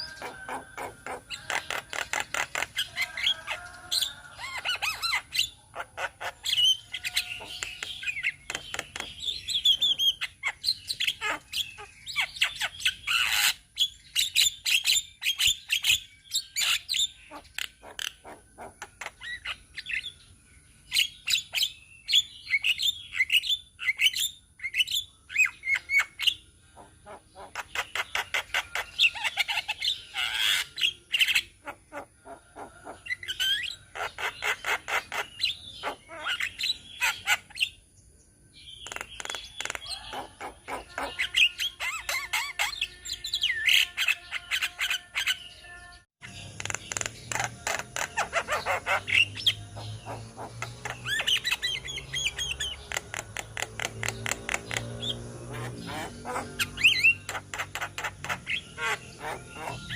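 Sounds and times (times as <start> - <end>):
birds chattering and whistling: 0.0 - 59.9.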